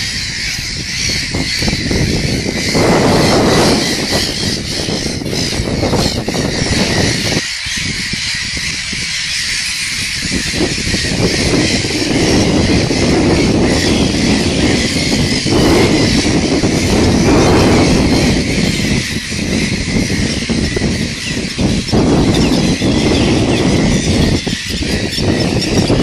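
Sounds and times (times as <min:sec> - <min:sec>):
gull colony calling: 0:00.0 - 0:26.0
wind rumbling on microphone: 0:00.0 - 0:26.0.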